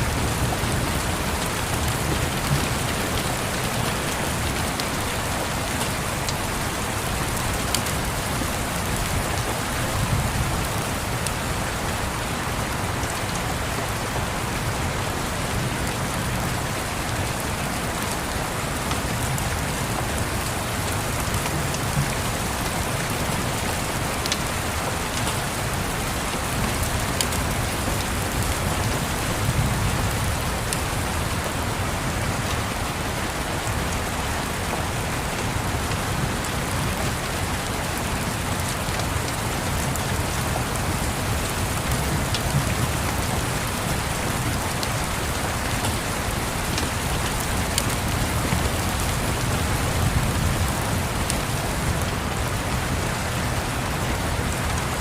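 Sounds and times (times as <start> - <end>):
steady rain on a surface: 0.0 - 55.0.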